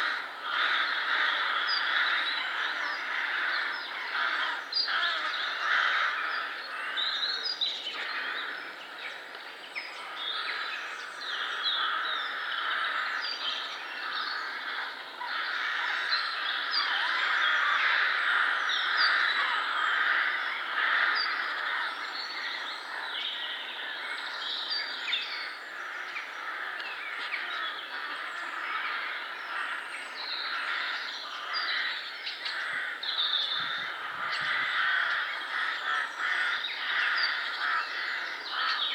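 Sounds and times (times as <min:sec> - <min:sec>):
crows cawing: 0:00.0 - 0:07.2, 0:10.0 - 0:13.4, 0:14.0 - 0:23.2, 0:25.4 - 0:38.9
small birds chirping and singing: 0:00.0 - 0:38.9.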